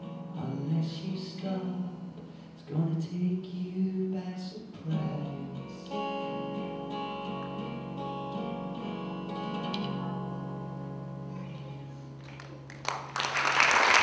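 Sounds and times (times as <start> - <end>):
acoustic guitar chord ringing: 0.0 - 12.7.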